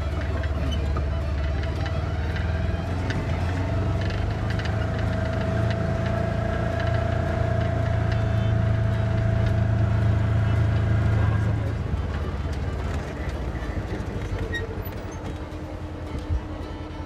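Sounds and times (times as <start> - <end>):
rattles and clicks: 0.0 - 16.8
vehicle engine drone: 0.0 - 17.0.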